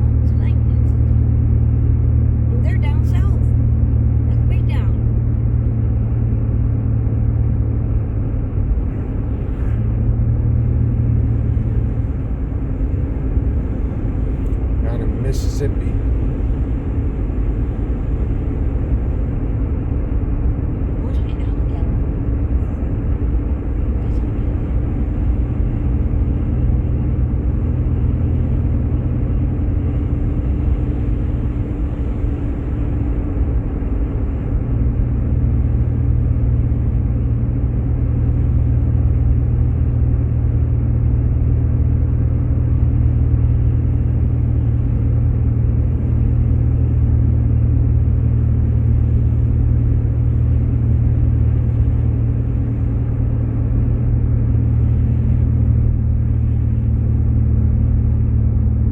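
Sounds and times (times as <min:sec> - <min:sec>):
car engine and tyres drone: 0:00.0 - 0:58.9.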